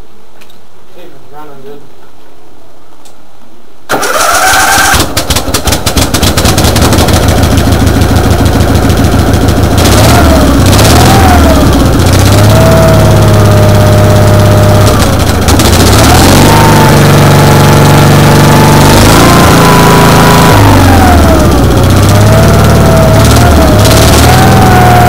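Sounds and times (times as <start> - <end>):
starter motor cranking: 3.9 - 25.0
tractor engine running: 3.9 - 25.0.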